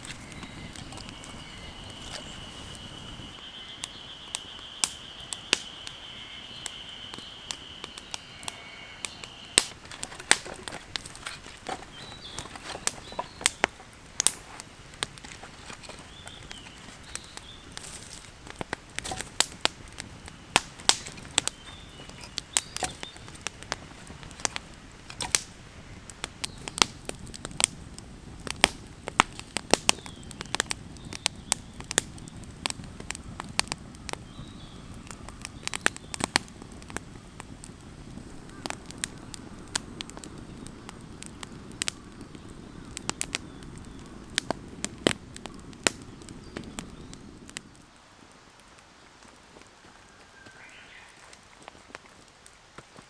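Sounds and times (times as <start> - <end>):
sharp snaps and pops: 0.0 - 3.4, 4.4 - 5.8, 6.5 - 47.9
campfire crackling: 0.0 - 53.0.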